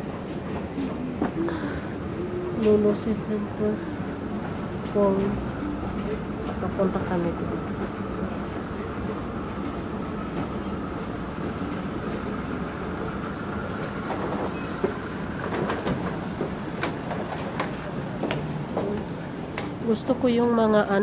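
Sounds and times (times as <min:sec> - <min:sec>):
escalator mechanical rumble: 0:00.0 - 0:21.0
thin high whine: 0:00.0 - 0:21.0.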